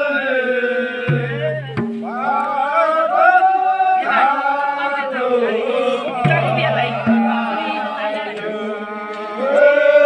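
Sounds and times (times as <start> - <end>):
group of people chanting a song: 0.0 - 10.0.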